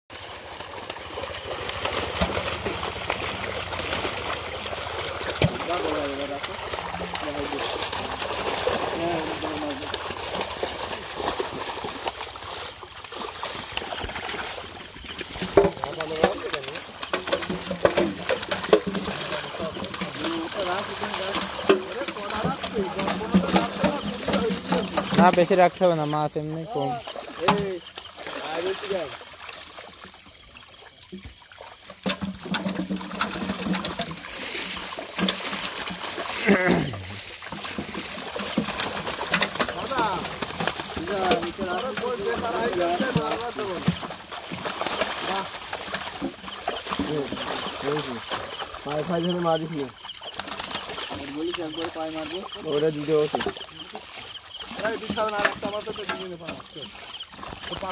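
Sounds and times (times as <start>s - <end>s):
fish thrashing in water: 0.1s - 57.9s
water splashing: 0.1s - 57.9s.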